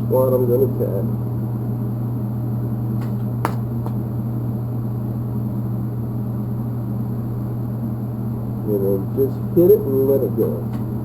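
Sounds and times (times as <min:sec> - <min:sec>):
welder electrical hum: 0:00.0 - 0:11.0.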